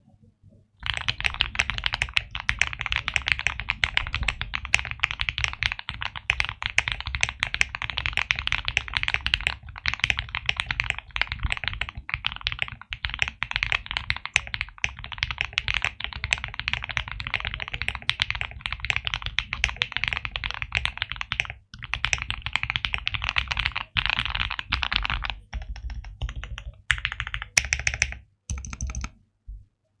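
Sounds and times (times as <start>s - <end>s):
typing on mechanical keyboard: 0.8s - 29.2s.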